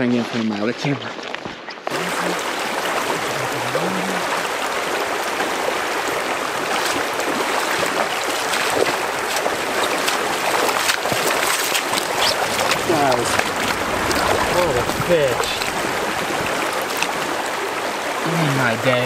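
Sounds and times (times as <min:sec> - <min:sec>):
boots wading through water: 0:00.2 - 0:19.0
river current over rocks: 0:01.9 - 0:19.0.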